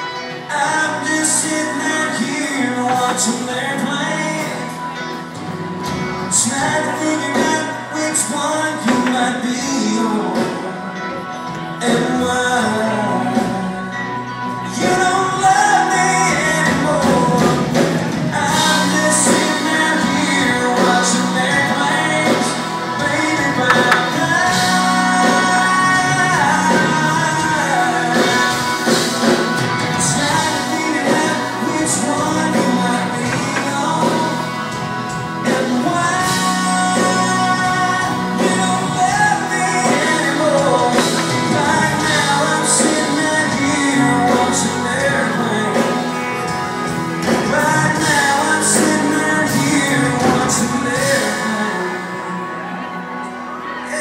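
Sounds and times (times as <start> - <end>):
live country band playing: 0.0 - 54.0
singer holding long notes: 0.0 - 54.0.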